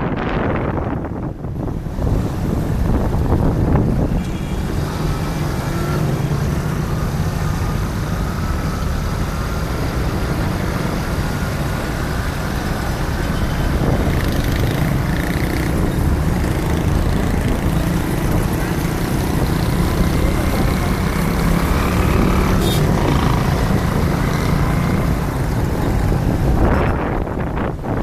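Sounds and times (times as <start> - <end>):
road traffic engines: 0.0 - 28.0.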